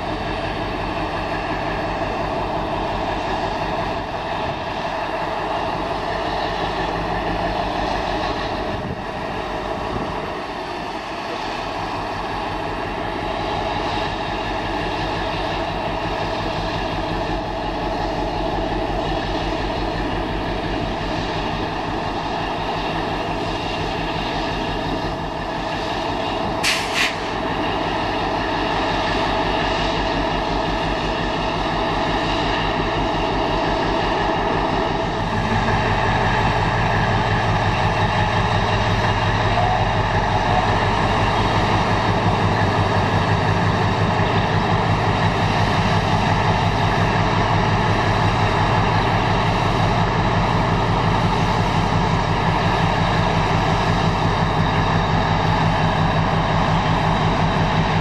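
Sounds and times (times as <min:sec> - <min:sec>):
diesel locomotive engine running: 0:00.0 - 0:58.0.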